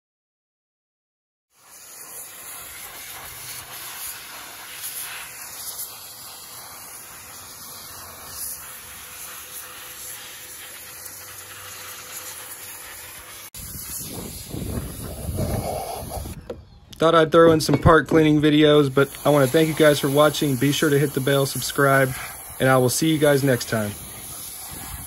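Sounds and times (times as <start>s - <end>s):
pressure washer spray hissing: 1.5s - 16.4s, 18.5s - 25.0s.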